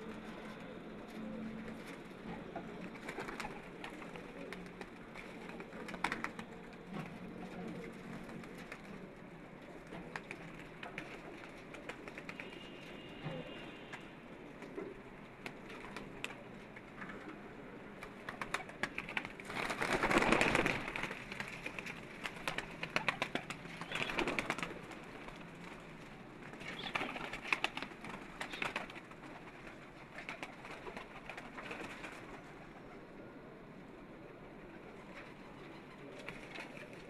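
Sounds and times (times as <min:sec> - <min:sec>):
wings flapping: 0:00.0 - 0:17.3, 0:18.0 - 0:33.0, 0:34.9 - 0:37.0
pigeons cooing: 0:00.0 - 0:25.8, 0:26.4 - 0:37.0.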